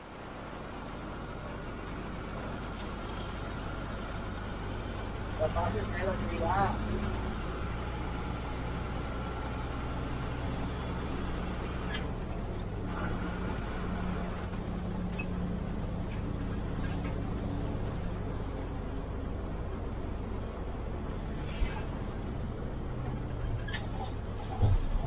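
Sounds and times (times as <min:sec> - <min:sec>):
bus diesel engine hum: 0:00.0 - 0:25.0.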